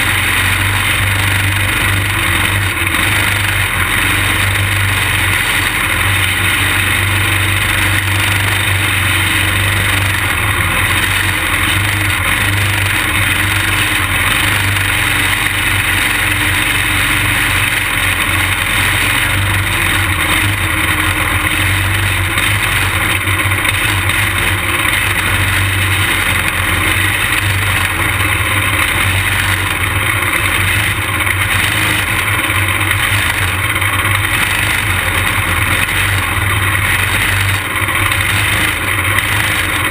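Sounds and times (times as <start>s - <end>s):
kart engine running: 0.0s - 39.9s
other kart engines: 0.0s - 39.9s.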